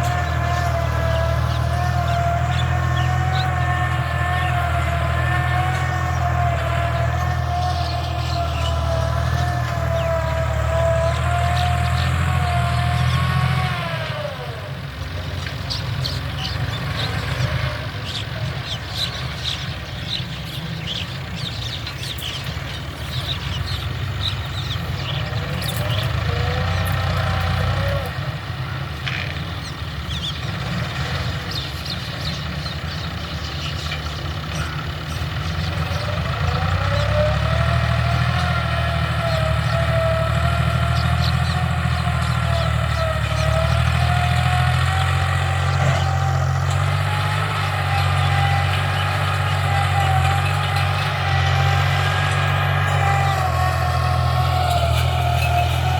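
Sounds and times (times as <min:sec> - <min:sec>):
tractor engine under load: 0:00.0 - 0:55.9.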